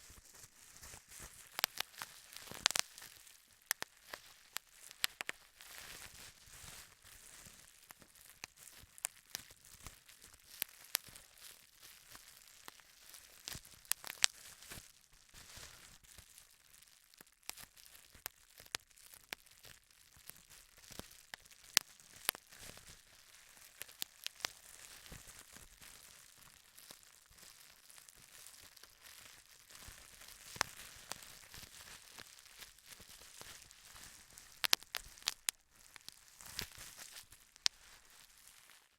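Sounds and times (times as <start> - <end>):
bubble wrap popping: 0.0 - 38.9
plastic sheet crinkling: 0.0 - 38.9.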